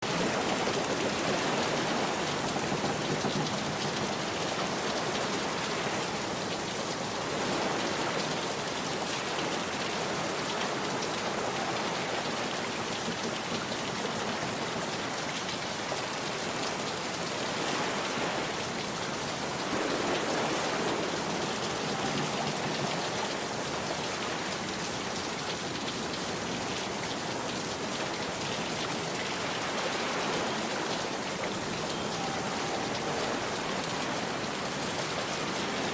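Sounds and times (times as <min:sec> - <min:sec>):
rain pouring down: 0:00.0 - 0:35.9.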